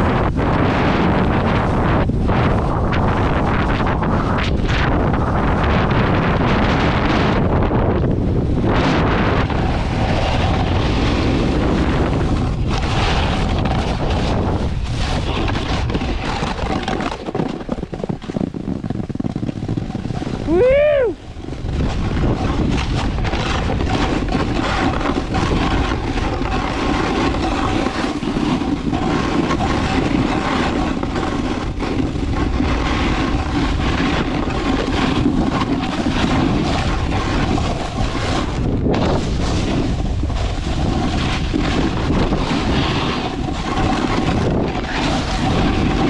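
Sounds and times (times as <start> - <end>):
snowboard scraping over snow: 0.0 - 46.0
wind rushing over microphone: 0.0 - 46.0.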